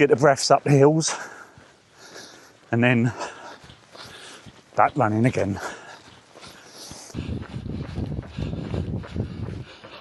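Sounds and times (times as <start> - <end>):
running footsteps: 0.0 - 10.0.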